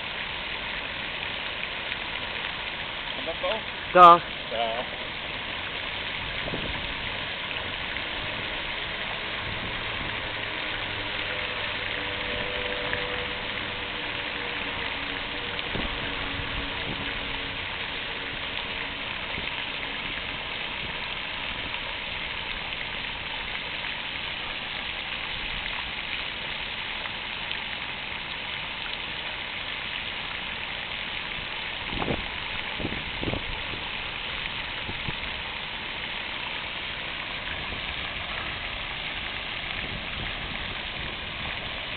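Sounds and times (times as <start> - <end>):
fountain water splashing: 0.0 - 41.9.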